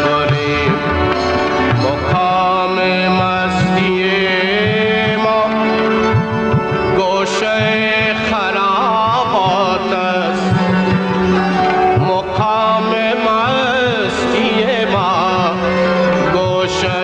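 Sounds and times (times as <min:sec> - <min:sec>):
instrumental drone: 0:00.0 - 0:17.0
man singing: 0:00.0 - 0:17.0.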